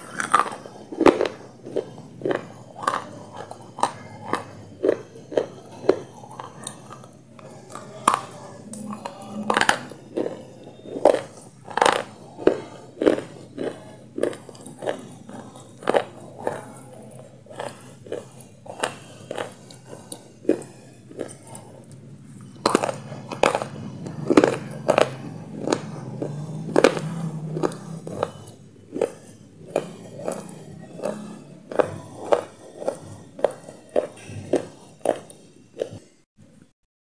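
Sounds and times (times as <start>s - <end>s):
chewing crunchy food: 0.0s - 36.2s.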